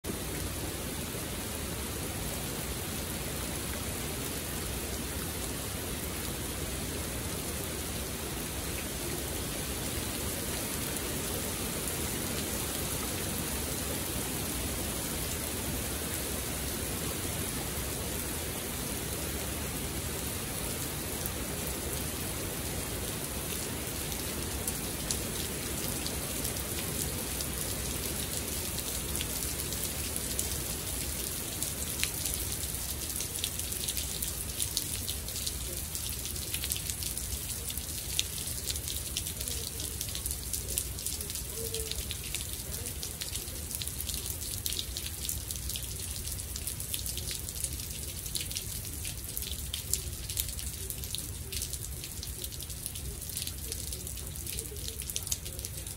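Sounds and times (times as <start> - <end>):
heavy rain on standing water: 0.0 - 55.9.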